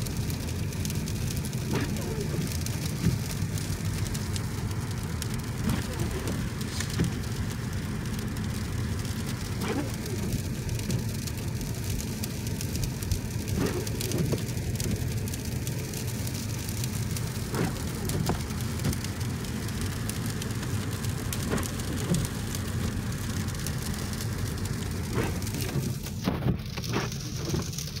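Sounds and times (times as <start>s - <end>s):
car road rumble: 0.0s - 28.0s.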